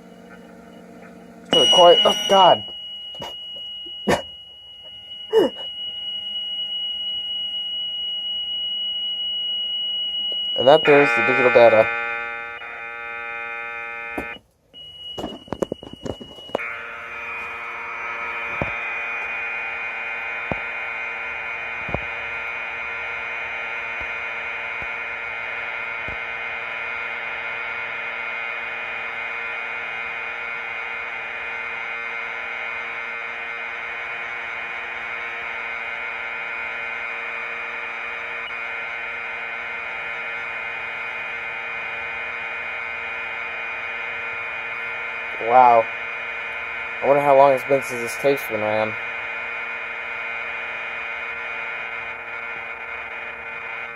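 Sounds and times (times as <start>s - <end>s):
buzzy whine of high tones: 0.0s - 53.9s
tape hiss: 0.0s - 53.9s.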